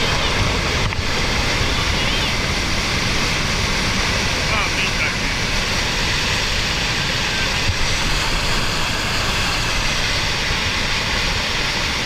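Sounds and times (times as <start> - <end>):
mud flow rushing down channel: 0.0 - 12.0.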